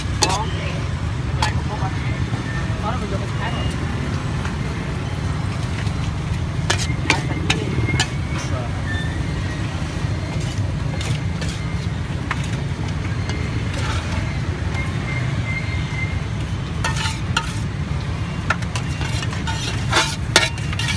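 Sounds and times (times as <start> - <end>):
metal ladle scraping a wok: 0.0 - 2.3, 5.5 - 15.5, 16.1 - 20.9.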